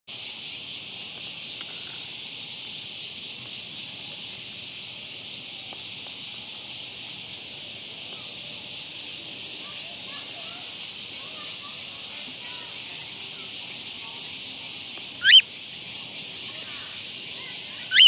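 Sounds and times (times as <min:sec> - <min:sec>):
high-pitched insect chorus: 0:00.1 - 0:18.0.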